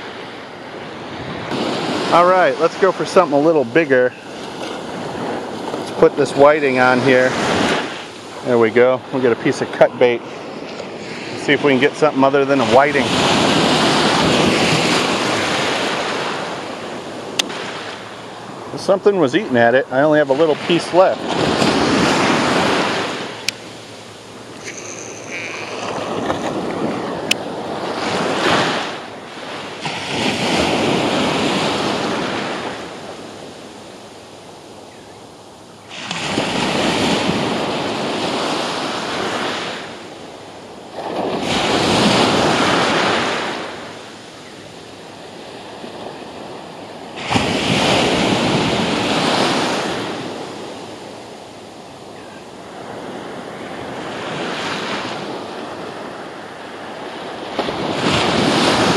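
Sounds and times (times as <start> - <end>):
surf washing up beach: 0.0 - 58.9.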